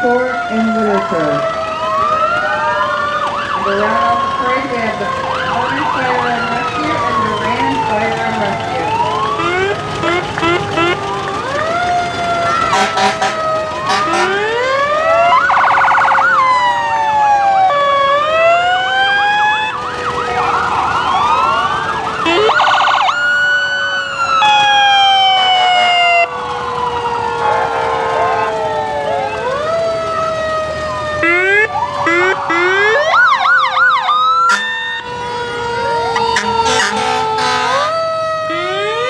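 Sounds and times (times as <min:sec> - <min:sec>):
fire truck sirens wailing: 0:00.0 - 0:39.0.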